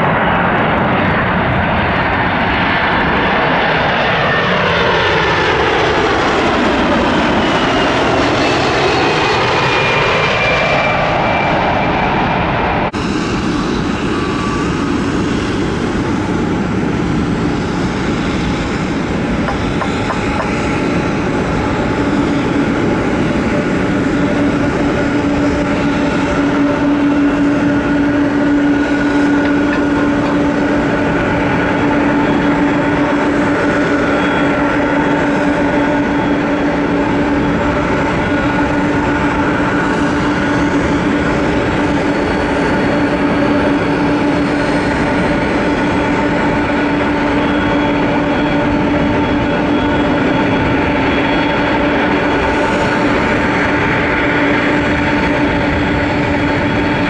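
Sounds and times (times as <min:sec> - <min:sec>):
jet engines humming and whining: 0:00.0 - 0:57.0.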